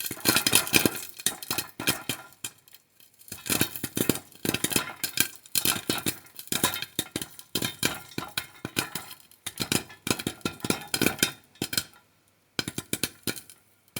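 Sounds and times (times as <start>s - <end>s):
popcorn popping in a pan: 0.0s - 13.9s.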